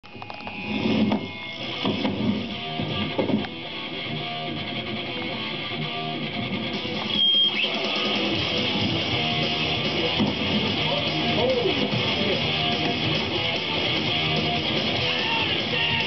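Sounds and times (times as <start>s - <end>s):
strummed guitar music: 0.3s - 16.0s.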